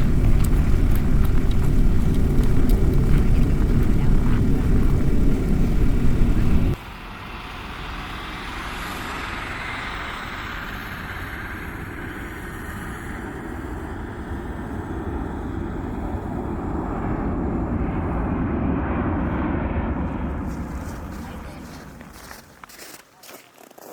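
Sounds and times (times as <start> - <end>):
aircraft engine rumble: 0.0 - 22.7.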